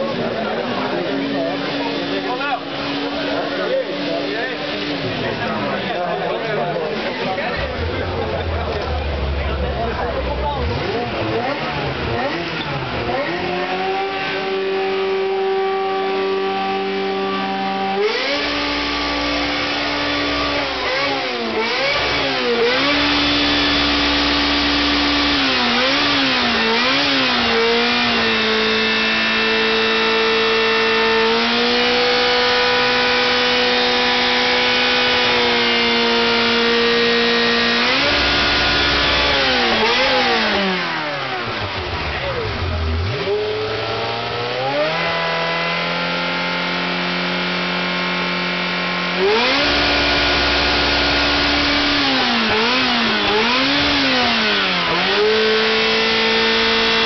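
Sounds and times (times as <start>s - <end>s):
sports car engine revving: 0.0s - 57.0s.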